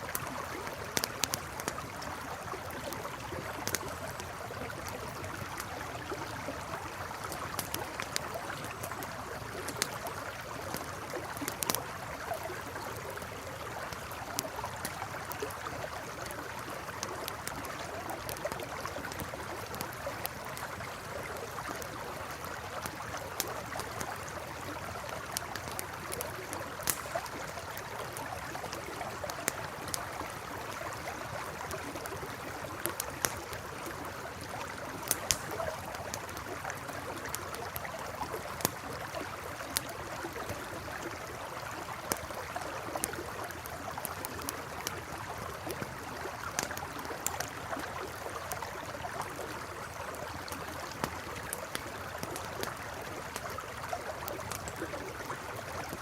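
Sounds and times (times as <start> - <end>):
campfire crackling and popping: 0.0 - 56.0
flowing river water: 0.0 - 56.0.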